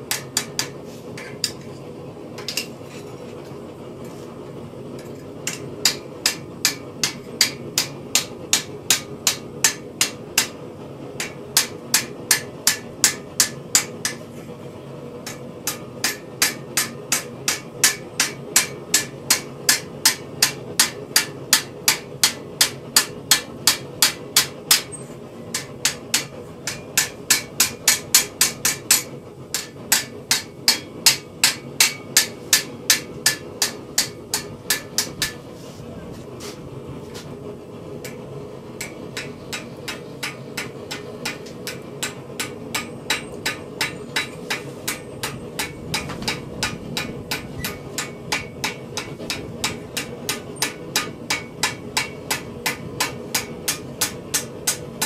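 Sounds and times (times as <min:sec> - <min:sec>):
hammer striking metal: 0:00.0 - 0:01.8, 0:05.0 - 0:10.6, 0:11.2 - 0:14.2, 0:15.3 - 0:35.4, 0:38.8 - 0:54.9.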